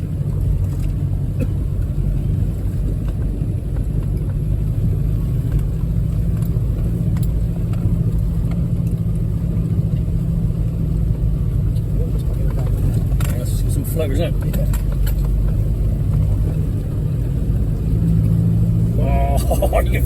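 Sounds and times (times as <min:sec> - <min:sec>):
vehicle engine rumble inside: 0:00.0 - 0:20.0.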